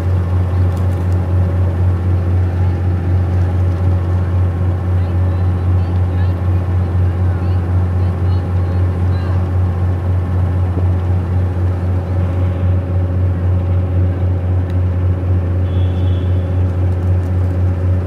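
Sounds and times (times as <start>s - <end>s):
boat engine droning: 0.0s - 18.0s
water churning along hull: 0.0s - 18.0s.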